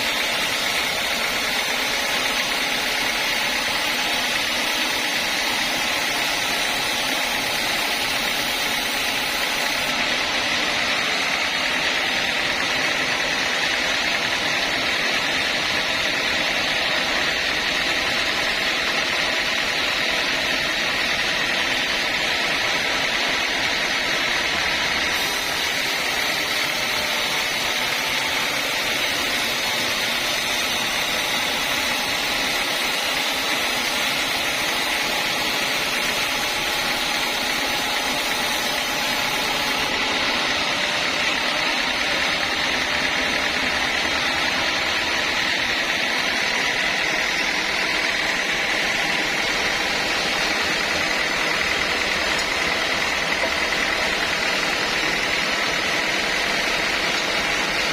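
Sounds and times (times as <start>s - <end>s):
sawmill machinery whining: 0.0s - 57.9s.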